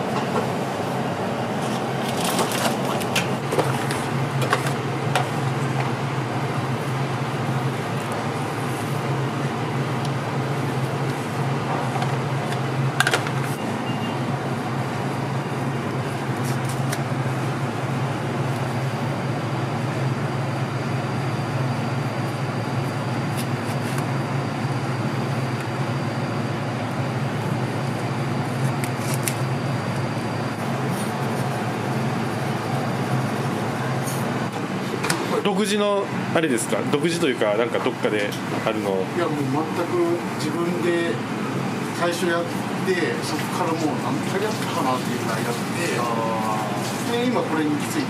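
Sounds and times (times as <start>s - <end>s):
extractor fan humming: 0.0s - 48.0s.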